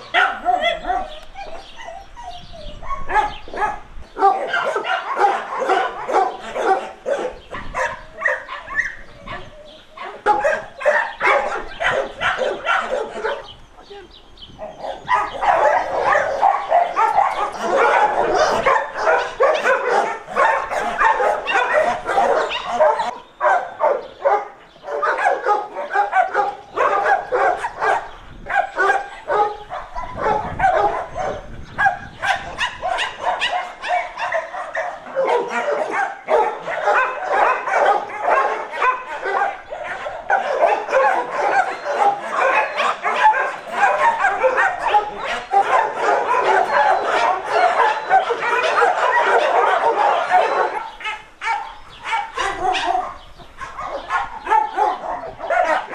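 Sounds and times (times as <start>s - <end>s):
many dogs barking and yelping: 0.0s - 55.9s.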